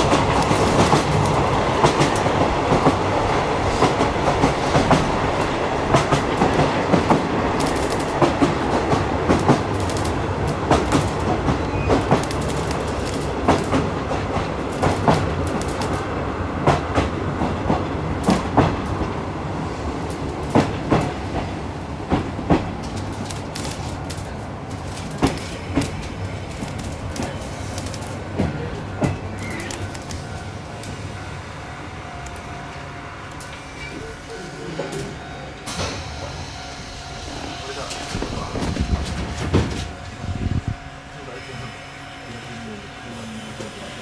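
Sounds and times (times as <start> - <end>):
train wheels clicking over rail joints: 0.0 - 31.4, 32.2 - 40.2
low train running rumble: 0.0 - 44.0.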